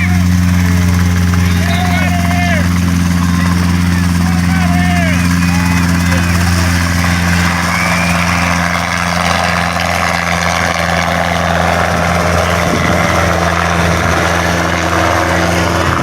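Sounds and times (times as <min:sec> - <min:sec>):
helicopter drone: 0:00.0 - 0:16.0.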